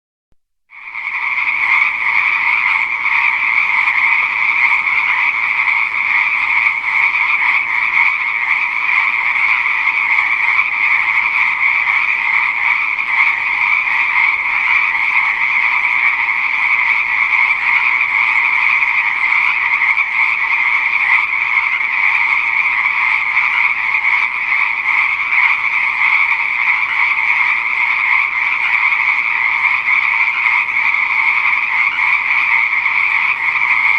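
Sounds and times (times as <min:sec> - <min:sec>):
chorus of frogs calling: 0:00.7 - 0:33.9.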